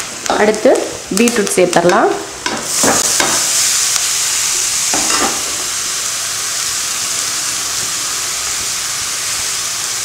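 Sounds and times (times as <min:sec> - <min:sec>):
beetroot sizzling in oil: 0:00.0 - 0:10.0.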